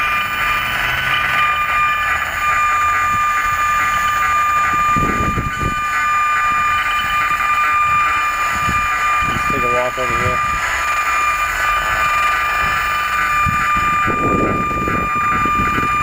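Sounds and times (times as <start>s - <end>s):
high whining tones: 0.0s - 16.0s.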